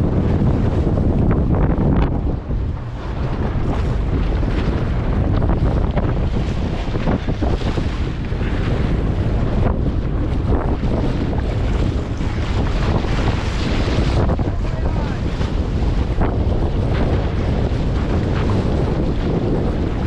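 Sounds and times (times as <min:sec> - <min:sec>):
gusting wind buffeting microphone: 0:00.0 - 0:20.0.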